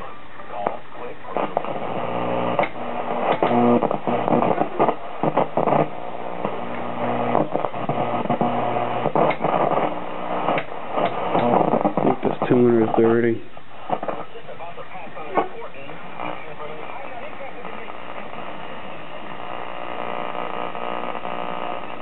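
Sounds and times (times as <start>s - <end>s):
static crackles: 0.0s - 22.0s
television static buzz and hiss: 0.0s - 22.0s.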